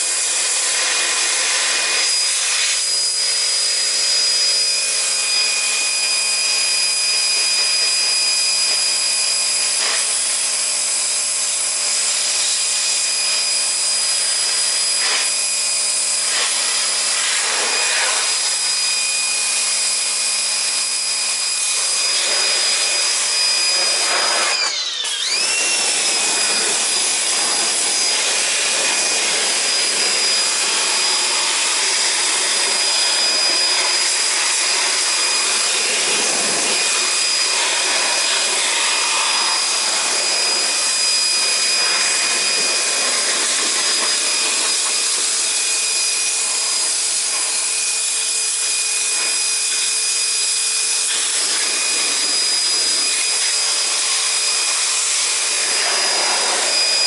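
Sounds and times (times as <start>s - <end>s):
high-speed electric motor whining: 0.0s - 57.0s.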